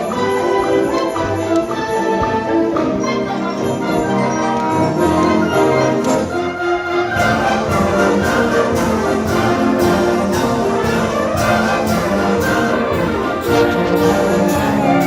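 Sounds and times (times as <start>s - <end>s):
orchestral music with brass and strings: 0.0s - 15.0s.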